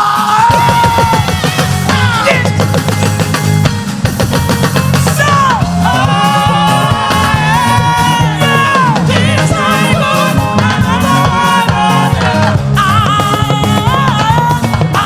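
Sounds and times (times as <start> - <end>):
bass line: 0.0 - 15.0
drums: 0.0 - 15.0.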